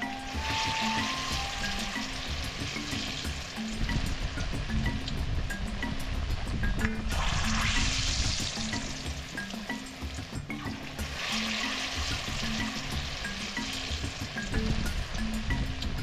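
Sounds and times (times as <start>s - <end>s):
plantain deep-frying in hot oil: 0.0s - 16.0s.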